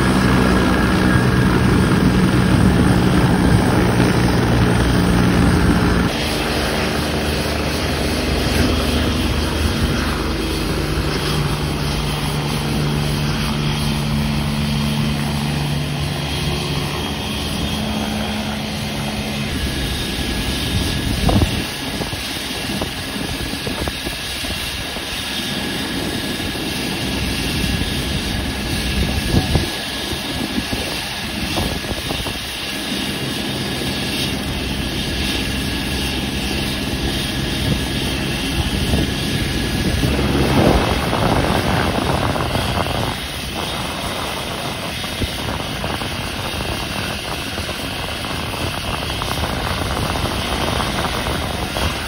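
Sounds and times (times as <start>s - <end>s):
helicopter rotors turning: 0.0s - 52.0s
steady high whine: 0.0s - 52.0s.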